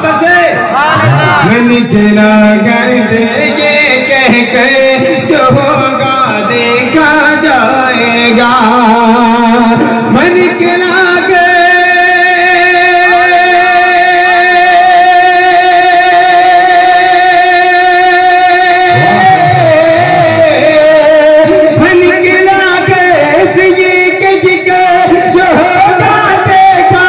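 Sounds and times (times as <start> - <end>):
man singing into a microphone: 0.0 - 27.0.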